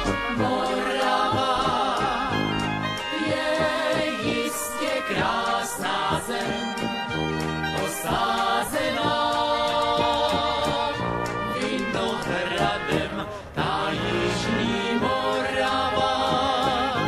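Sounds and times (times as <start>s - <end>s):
band playing: 0.0s - 17.0s
voices singing: 0.0s - 17.0s.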